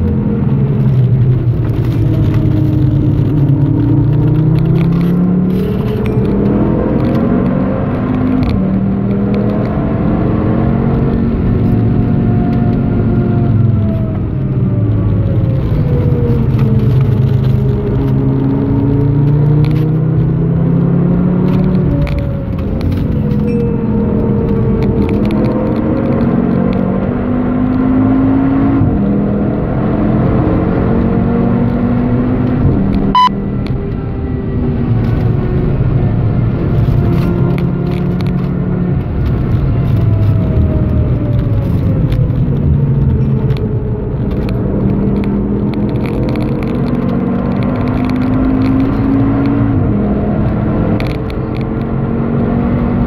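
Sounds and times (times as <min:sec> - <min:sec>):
car engine under hard driving: 0:00.0 - 0:53.0.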